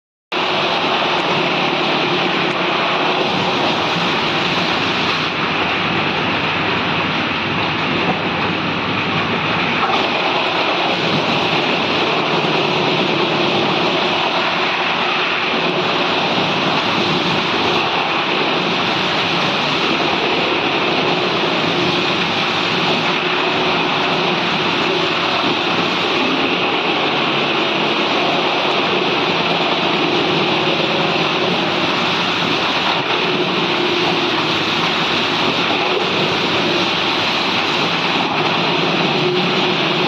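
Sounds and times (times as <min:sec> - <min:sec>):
wood chipper running: 0:00.4 - 0:40.0.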